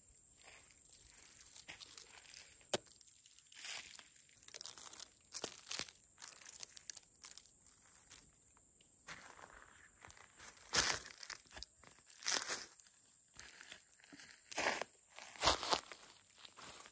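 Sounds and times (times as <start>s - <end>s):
dry leaves crunching: 0.4s - 8.4s, 9.1s - 16.9s.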